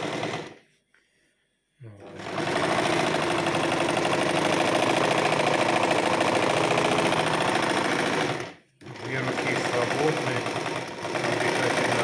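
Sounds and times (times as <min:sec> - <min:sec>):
sewing machine running: 0:00.0 - 0:00.6, 0:02.0 - 0:12.0.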